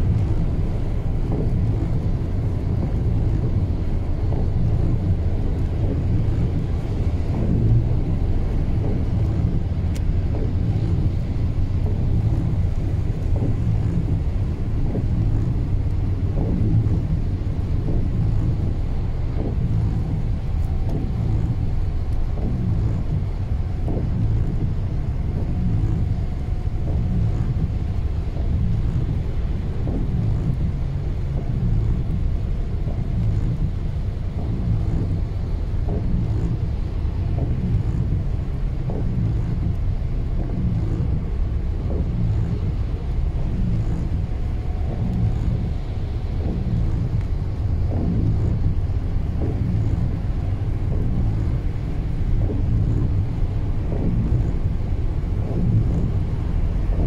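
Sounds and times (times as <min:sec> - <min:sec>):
tyres rumbling on wet road: 0:00.0 - 0:57.0.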